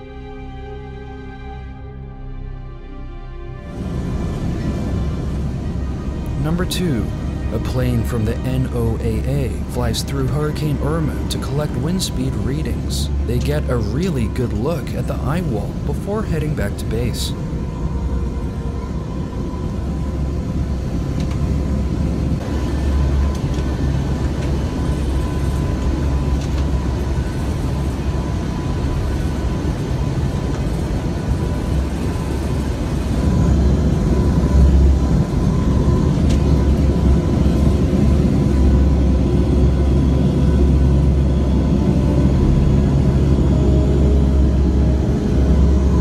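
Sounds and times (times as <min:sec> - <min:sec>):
held hum: 0:00.0 - 0:46.0
turboprop engines droning: 0:00.0 - 0:46.0.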